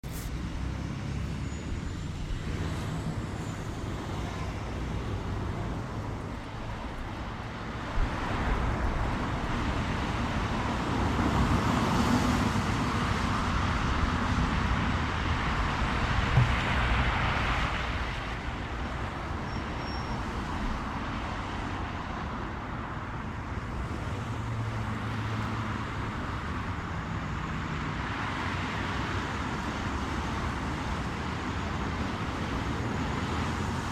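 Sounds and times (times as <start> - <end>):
cars passing: 0.0 - 33.9.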